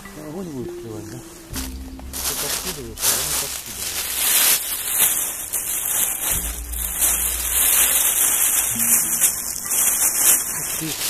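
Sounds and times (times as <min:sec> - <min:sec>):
hissing rain-like music wash: 0:00.0 - 0:11.0
low held bass notes: 0:00.0 - 0:11.0.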